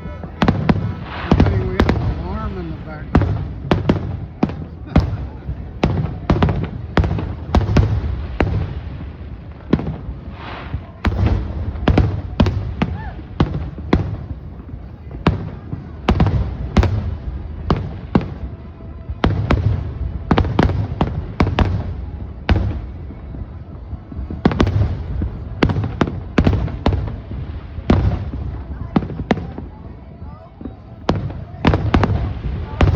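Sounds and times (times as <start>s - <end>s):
fireworks cracking and booming: 0.0s - 32.9s.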